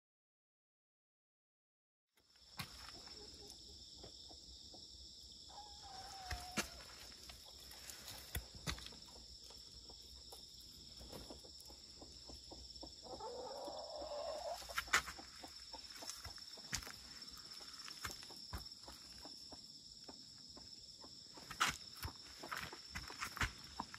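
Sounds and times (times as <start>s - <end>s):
chickens clucking: 2.6s - 23.9s.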